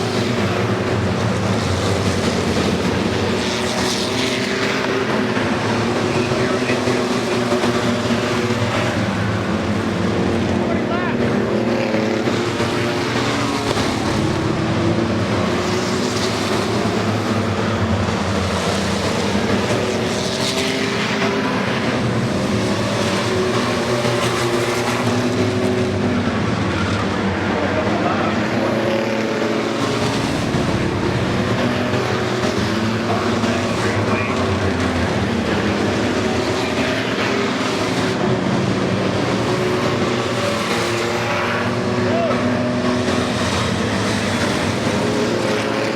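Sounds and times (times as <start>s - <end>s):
race truck engines: 0.0s - 45.9s.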